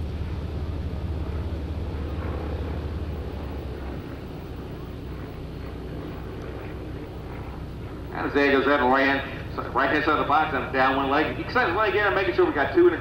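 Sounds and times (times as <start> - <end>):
distant propeller plane engine droning: 0.0 - 13.0.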